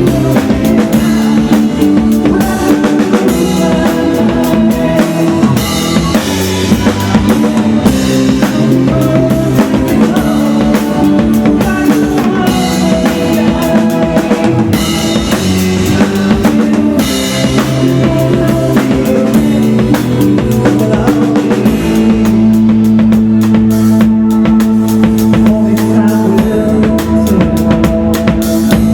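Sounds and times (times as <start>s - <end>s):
live band music: 0.0s - 28.9s.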